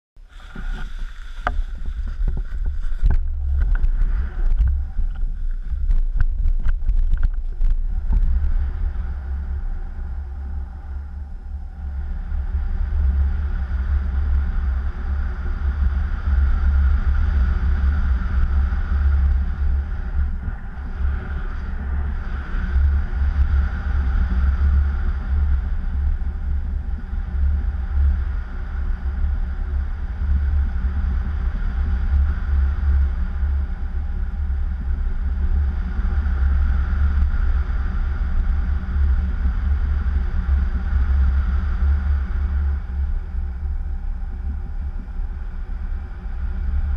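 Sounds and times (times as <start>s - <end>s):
wind buffeting microphone: 0.2s - 46.9s.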